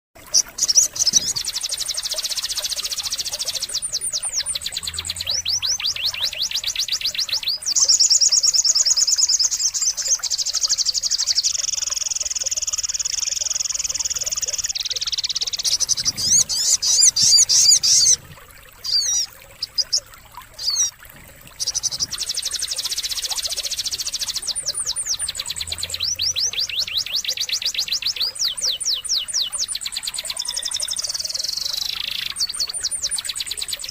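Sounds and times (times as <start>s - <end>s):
birdsong with fast high trills: 0.2s - 20.9s, 21.6s - 33.9s.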